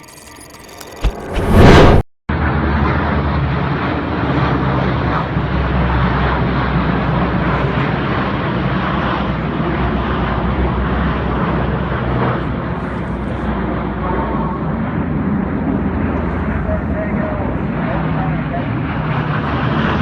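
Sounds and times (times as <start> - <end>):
aircraft engines droning overhead: 2.4 - 20.0.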